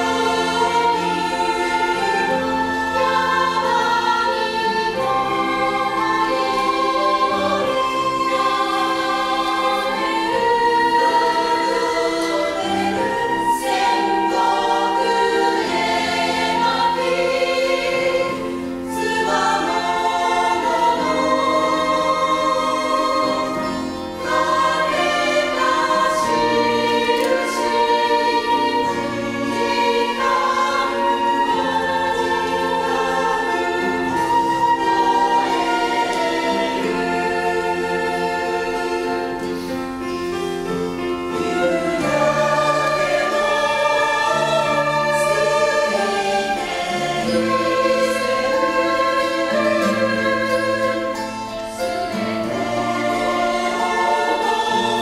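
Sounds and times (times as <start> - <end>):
acoustic guitars: 0.0 - 55.0
choir singing: 0.0 - 55.0
piano: 0.0 - 55.0.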